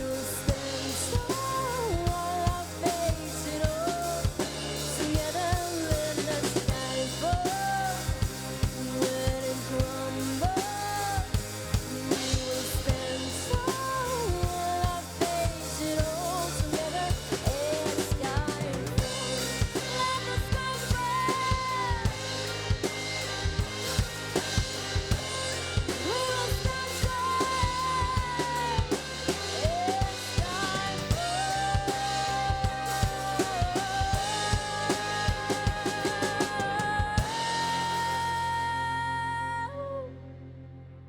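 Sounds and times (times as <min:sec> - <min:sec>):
drum kit kick and snare: 0:00.0 - 0:38.3
live band playing: 0:00.0 - 0:38.7.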